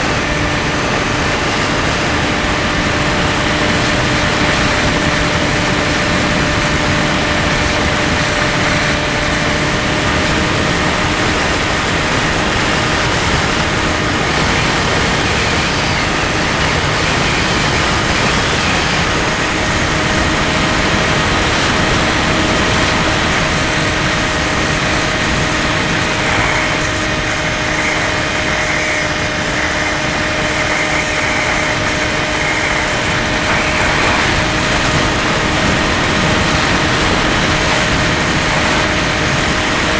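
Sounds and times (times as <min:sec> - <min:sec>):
electric motor and propeller whine: 0:00.0 - 0:39.9
loud rushing noise: 0:00.0 - 0:39.9.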